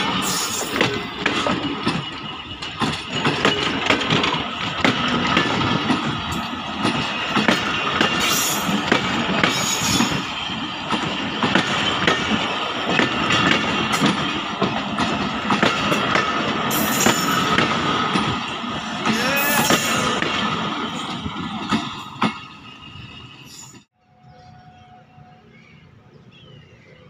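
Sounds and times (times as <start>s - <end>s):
train wheels clattering over rail joints: 0.0s - 23.8s.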